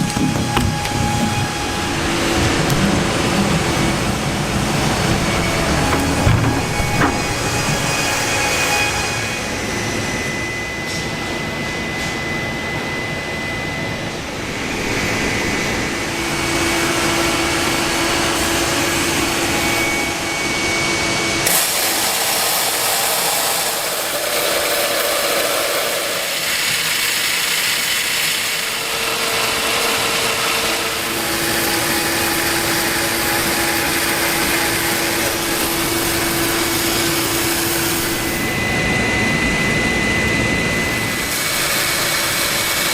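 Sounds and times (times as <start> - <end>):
woodworking machinery running: 0.0 - 10.6, 14.1 - 42.9
faint machine whine: 0.0 - 21.7, 23.8 - 42.9.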